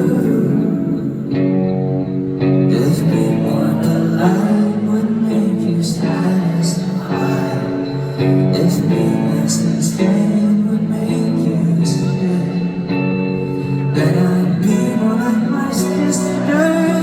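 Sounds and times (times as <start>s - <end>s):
live pop band music: 0.0s - 17.0s.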